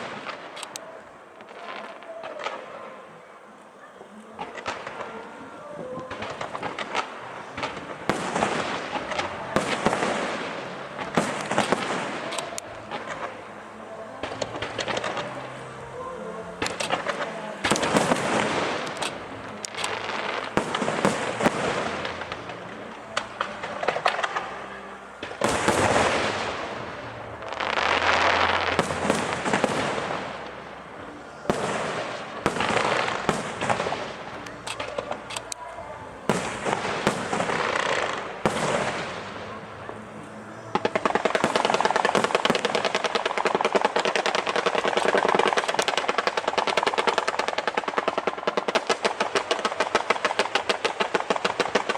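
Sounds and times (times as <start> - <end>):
fireworks booming and crackling: 0.0 - 51.9
rapid fireworks popping barrage: 0.0 - 51.9.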